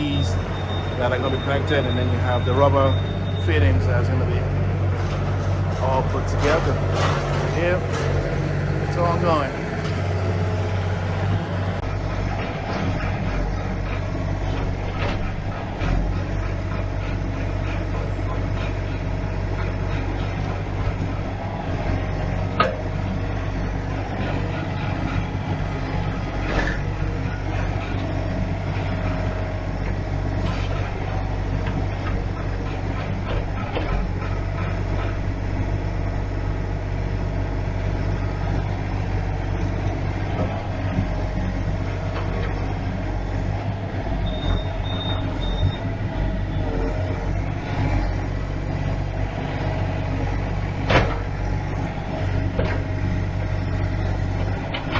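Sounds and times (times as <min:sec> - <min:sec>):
knocks and clanks: 0:00.0 - 0:54.9
large engine running: 0:00.0 - 0:54.9.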